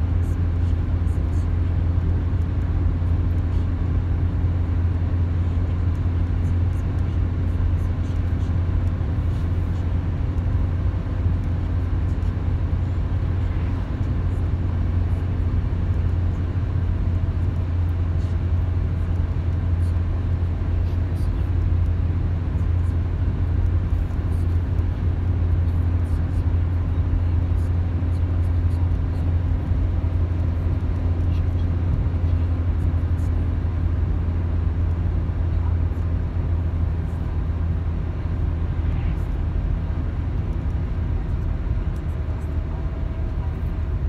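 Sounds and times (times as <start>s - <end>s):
car driving on wet road: 0.0s - 44.0s.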